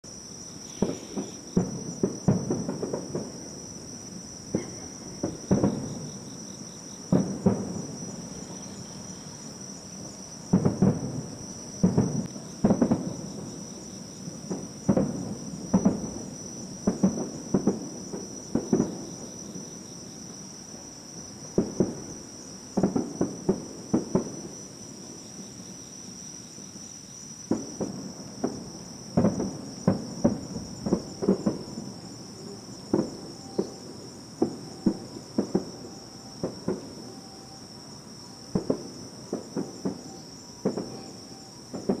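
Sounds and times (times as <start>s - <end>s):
high-pitched insect trill: 0.0s - 42.0s
distant fireworks booming: 0.4s - 25.1s, 27.5s - 42.0s.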